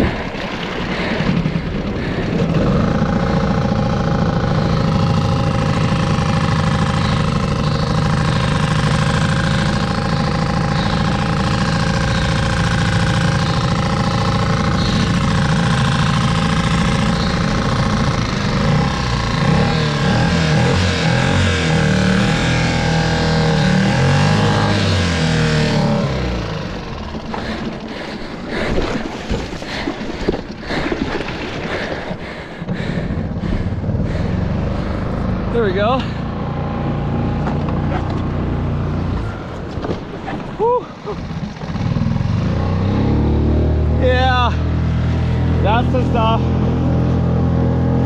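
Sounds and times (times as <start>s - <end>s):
engine running: 0.0s - 48.0s.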